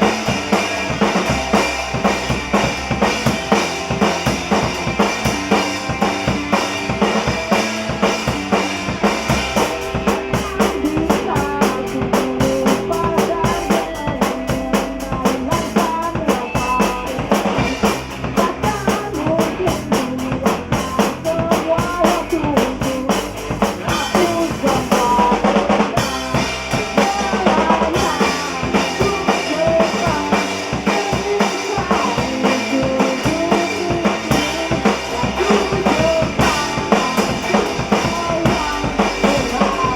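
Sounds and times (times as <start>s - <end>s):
bass drum: 0.0s - 39.9s
rock band playing: 0.0s - 39.9s.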